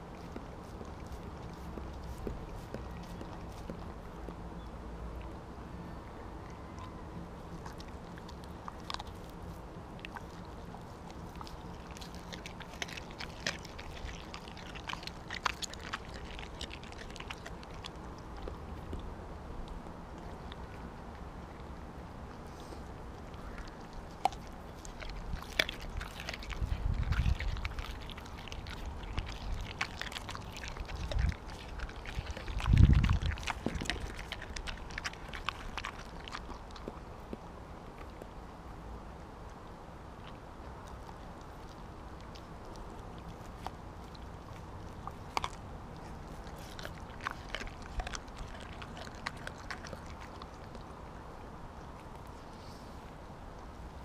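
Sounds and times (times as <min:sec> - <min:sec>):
dog chewing fish: 0:00.0 - 0:05.4, 0:06.7 - 0:38.6, 0:39.4 - 0:54.0.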